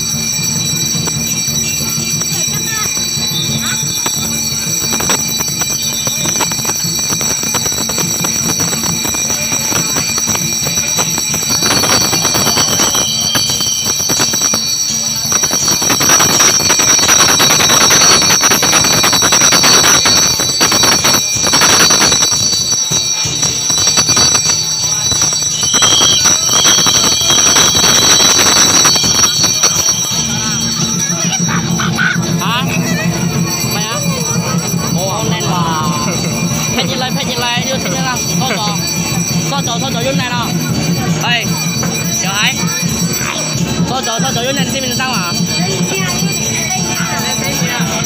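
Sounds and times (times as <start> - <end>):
crowd din of voices: 0.0 - 48.0
high-pitched ringing: 0.0 - 48.0.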